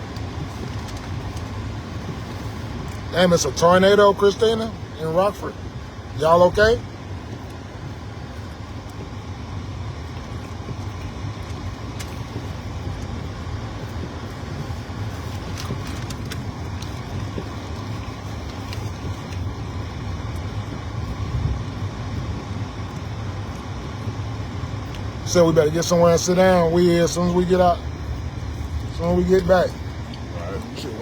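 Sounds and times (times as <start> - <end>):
car engine rumble inside cabin: 0.0 - 31.0.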